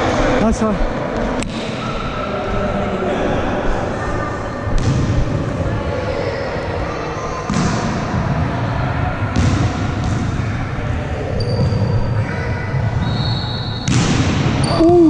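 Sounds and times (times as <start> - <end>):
indoor hall background noise: 0.0 - 15.0.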